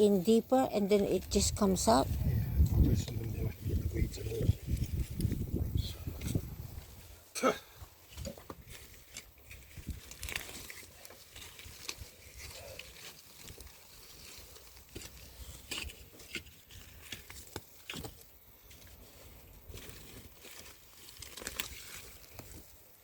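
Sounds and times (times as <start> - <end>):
soil scraping and crunching: 0.8 - 23.0.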